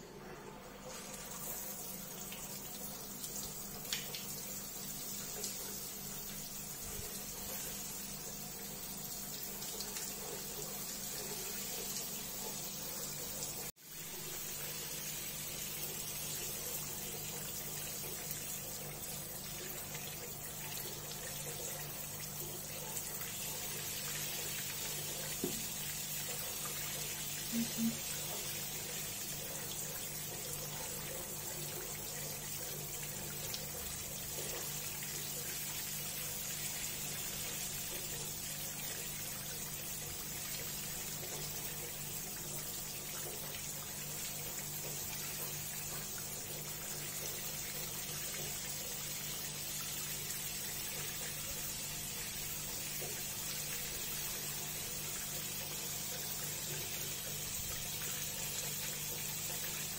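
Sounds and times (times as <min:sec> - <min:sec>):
tap water filling a bath: 0:00.6 - 0:59.9.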